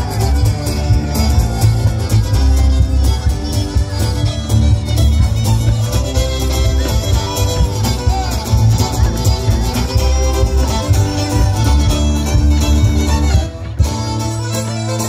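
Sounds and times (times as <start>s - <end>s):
strong bass beat: 0.0s - 14.6s
fiddle tune: 0.0s - 15.0s
strummed guitar: 0.0s - 15.0s.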